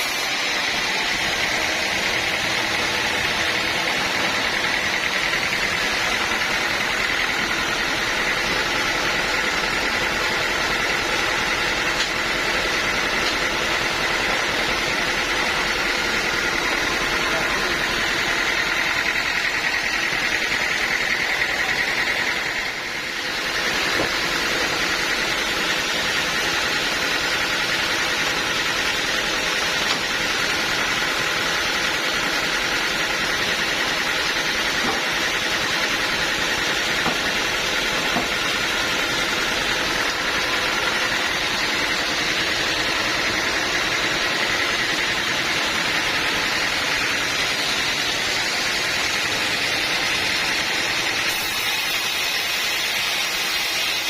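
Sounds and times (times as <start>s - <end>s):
bandsaw sawmill running: 0.0s - 54.0s.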